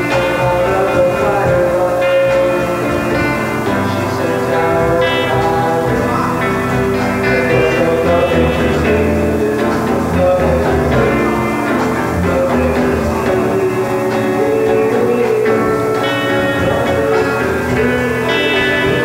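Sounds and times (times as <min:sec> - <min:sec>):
electric guitars: 0:00.0 - 0:19.0
organ: 0:00.0 - 0:19.0
rock band instrumental: 0:00.0 - 0:19.0.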